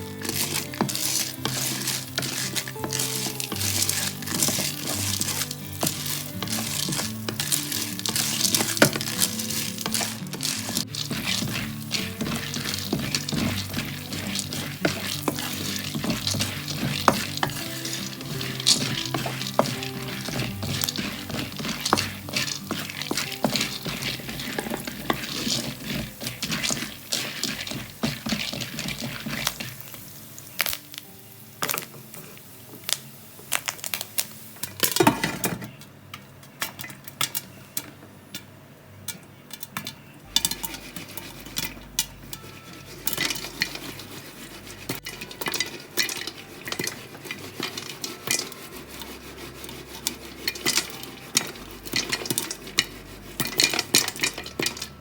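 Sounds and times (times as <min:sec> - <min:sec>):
utensil stirring and clinking in pan: 0:00.0 - 0:30.9, 0:39.1 - 0:55.0
food sizzling: 0:00.0 - 0:35.6, 0:40.2 - 0:55.0.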